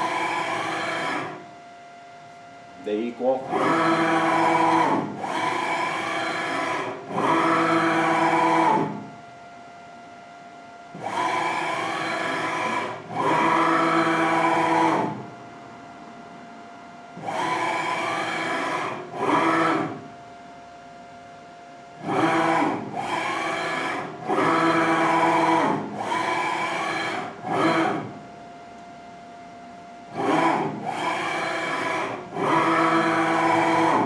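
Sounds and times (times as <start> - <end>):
servo and leadscrew whine: 0.0 - 1.5, 2.2 - 9.1, 10.9 - 20.2, 21.9 - 28.9, 29.6 - 34.0
faint steady hum: 0.0 - 34.0.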